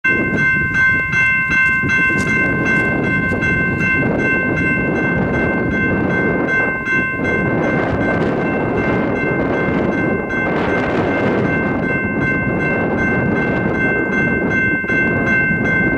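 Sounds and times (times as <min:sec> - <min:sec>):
train rumbling: 0:00.1 - 0:15.9.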